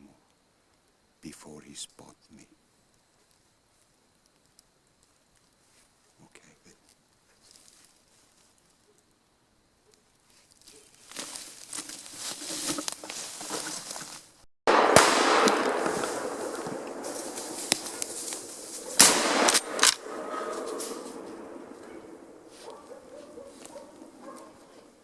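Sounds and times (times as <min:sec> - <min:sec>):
brush and twigs crackling: 0:02.8 - 0:09.1, 0:10.1 - 0:25.0.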